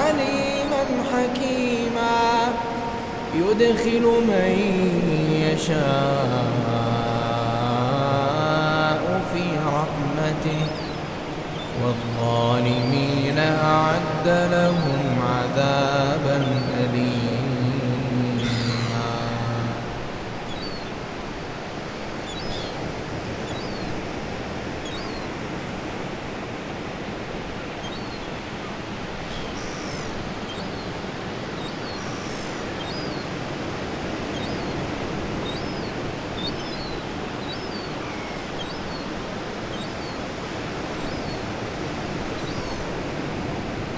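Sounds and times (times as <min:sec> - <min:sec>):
ocean surf washing: 0:00.0 - 0:43.9
seagulls calling: 0:00.0 - 0:43.9.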